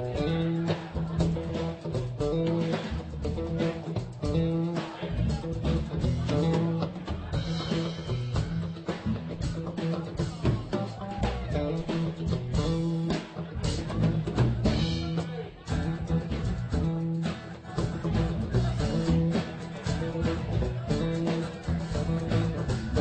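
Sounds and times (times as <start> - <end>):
drum kit steady beat: 0.0 - 23.0
electric guitar: 0.0 - 23.0.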